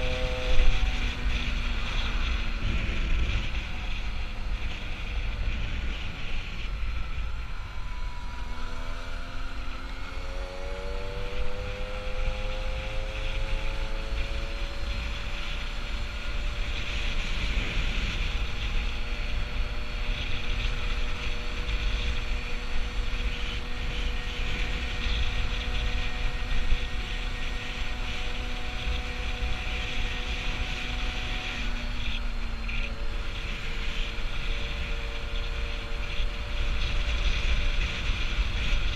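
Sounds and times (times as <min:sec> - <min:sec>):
moped engine: 0:00.0 - 0:38.9
wind rumble on microphone: 0:00.0 - 0:38.9.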